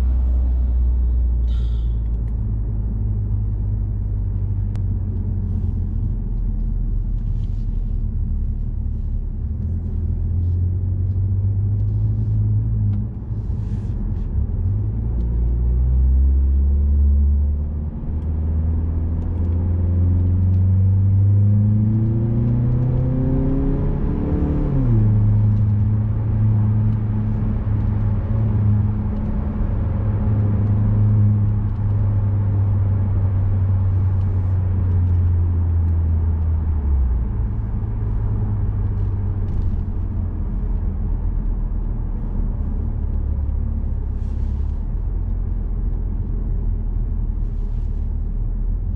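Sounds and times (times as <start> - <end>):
car engine droning in cabin: 0.0 - 48.9.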